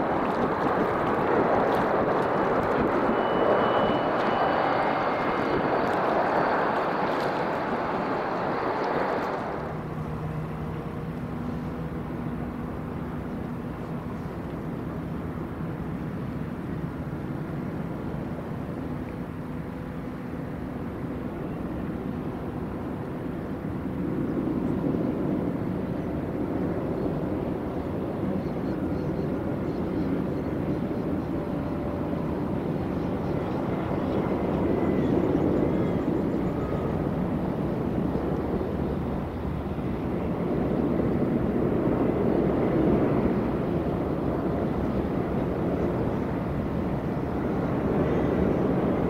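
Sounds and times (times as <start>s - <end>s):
airliner jet engines rumbling: 0.0s - 49.0s.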